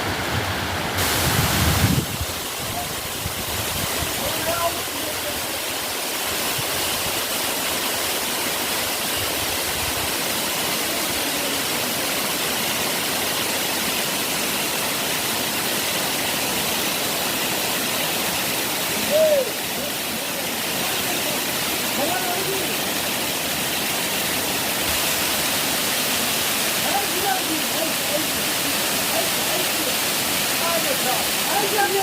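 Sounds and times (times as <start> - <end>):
waterfall rushing water: 0.0 - 32.0.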